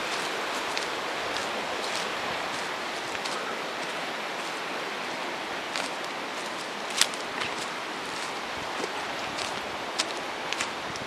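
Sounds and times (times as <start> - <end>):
footsteps on dry leaves: 0.0 - 4.8, 5.6 - 10.8
steady rushing noise: 0.0 - 11.0.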